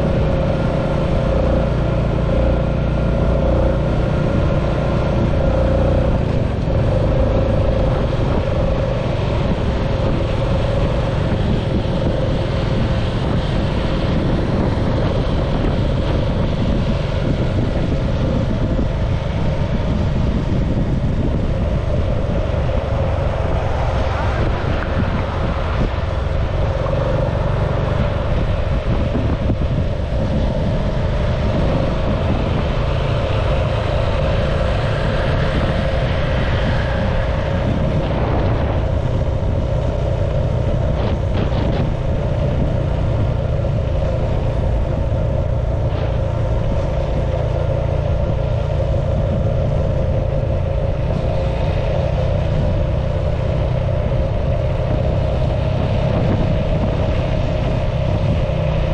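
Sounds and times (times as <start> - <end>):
motorcycle engine cruising: 0.0 - 58.9
wind buffeting microphone: 0.0 - 58.9.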